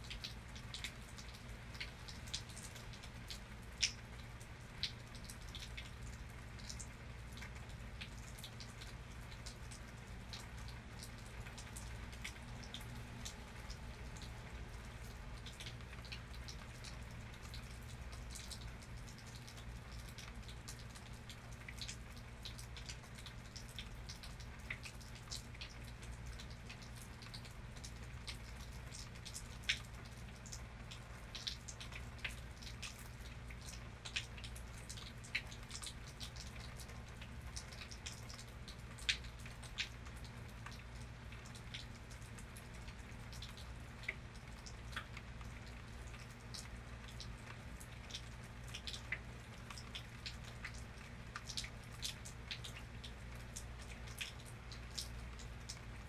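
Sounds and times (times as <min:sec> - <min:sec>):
raindrops ticking onto a surface: 0:00.0 - 0:56.0.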